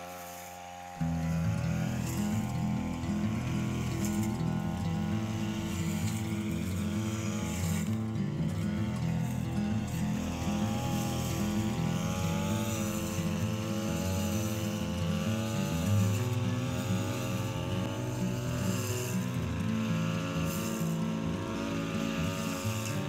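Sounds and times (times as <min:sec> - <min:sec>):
brush cutter engine cutting grass: 0:00.0 - 0:23.0.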